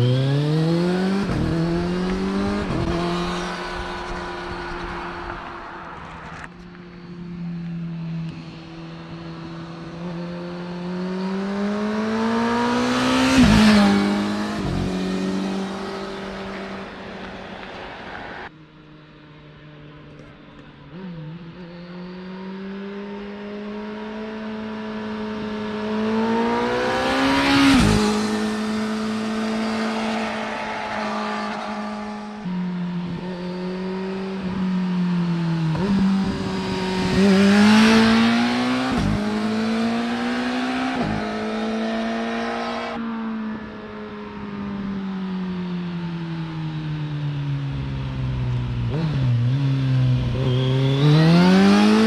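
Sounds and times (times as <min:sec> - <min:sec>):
motorcycle engine passing by: 0:00.0 - 0:18.5, 0:20.9 - 0:43.0, 0:48.6 - 0:52.0.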